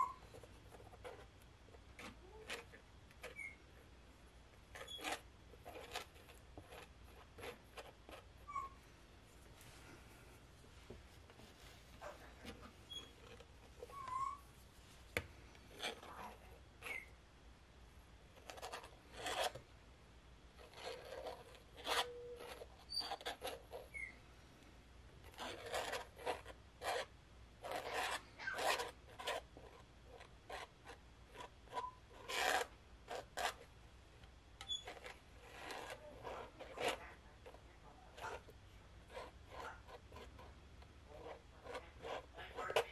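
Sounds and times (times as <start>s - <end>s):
palette knife scraping paint: 0.0s - 3.9s, 4.6s - 8.8s, 11.3s - 14.7s, 15.4s - 17.2s, 18.3s - 19.6s, 20.5s - 24.3s, 25.2s - 33.7s, 34.6s - 42.9s.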